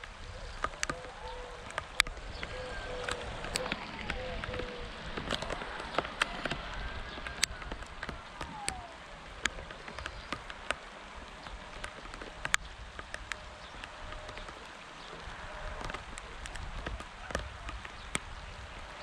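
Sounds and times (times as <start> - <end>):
rain hiss: 0.0 - 19.0
raindrops ticking: 0.0 - 19.0.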